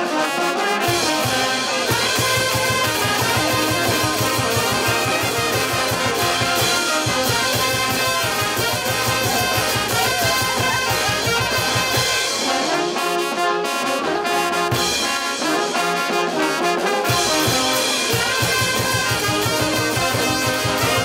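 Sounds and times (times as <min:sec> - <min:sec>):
brass band horns playing chords: 0:00.0 - 0:21.0.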